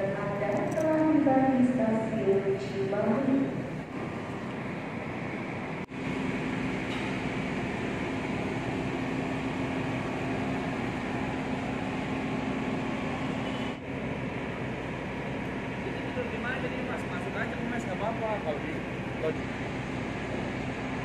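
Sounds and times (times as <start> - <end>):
steady low hum: 0.0 - 21.0
train rolling rumble: 0.0 - 21.0.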